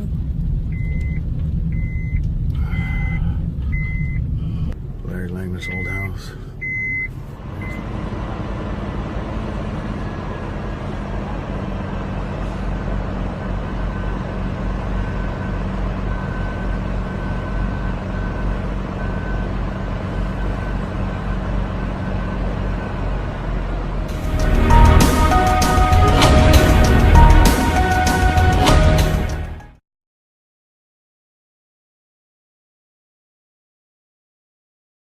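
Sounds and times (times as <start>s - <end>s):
car road and engine noise: 0.0s - 29.7s.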